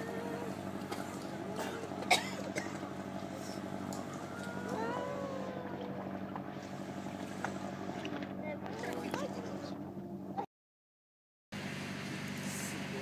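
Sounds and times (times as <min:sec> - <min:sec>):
boat machinery humming: 0:00.0 - 0:10.5.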